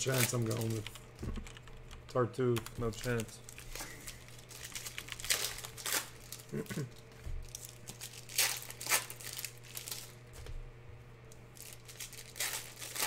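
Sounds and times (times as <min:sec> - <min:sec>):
packaging crinkling and rustling: 0:00.0 - 0:01.5, 0:02.7 - 0:10.5, 0:11.6 - 0:13.0.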